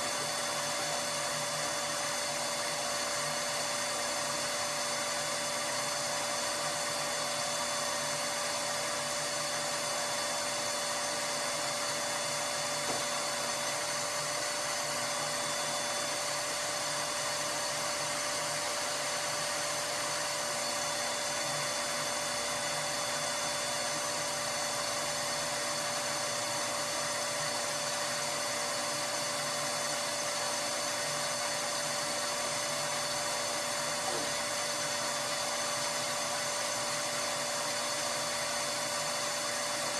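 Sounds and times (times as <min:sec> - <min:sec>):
vacuum motor whine: 0:00.0 - 0:39.9.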